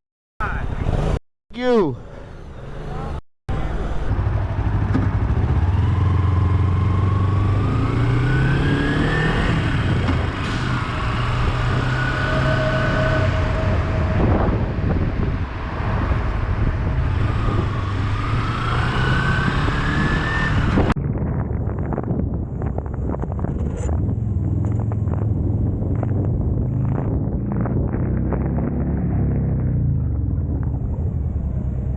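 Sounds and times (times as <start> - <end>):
wind and road noise: 0.4 - 31.9
motorcycle engine accelerating: 2.4 - 31.9.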